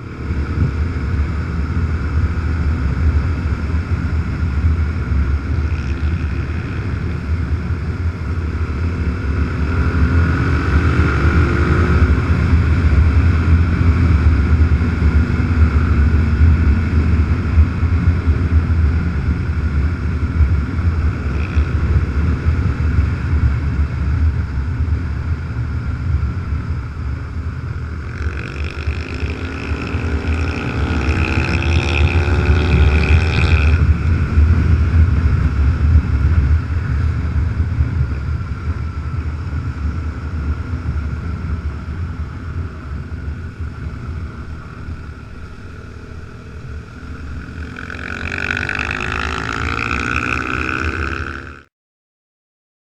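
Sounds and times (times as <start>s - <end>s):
wind rumble: 0.0s - 51.6s
motorcycle engine at speed: 0.0s - 51.7s.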